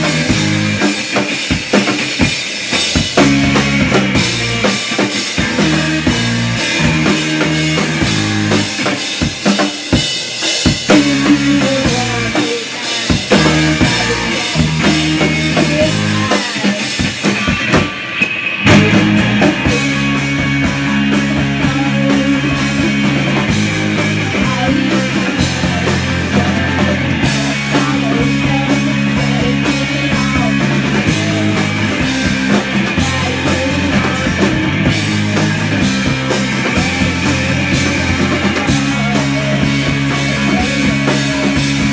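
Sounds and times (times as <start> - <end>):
drums: 0.0 - 41.9
punk rock band playing: 0.0 - 41.9.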